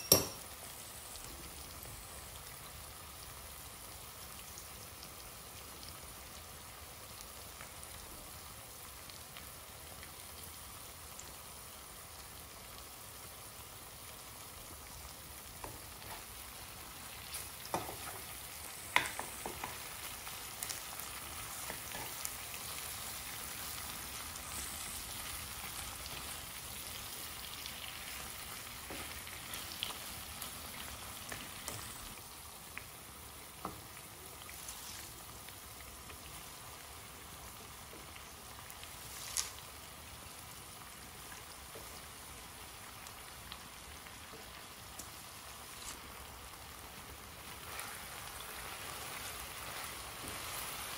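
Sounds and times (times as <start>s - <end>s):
food sizzling in a pan: 0.0s - 50.9s.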